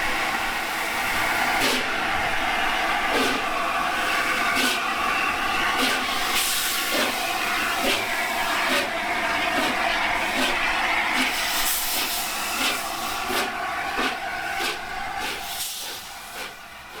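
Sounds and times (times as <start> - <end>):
steam hiss: 0.0 - 17.0
steam locomotive exhaust beats: 0.0 - 17.0.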